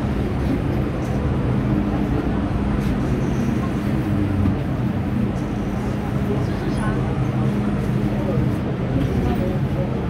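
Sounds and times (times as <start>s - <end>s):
steel wheels running on rail: 0.0s - 10.0s.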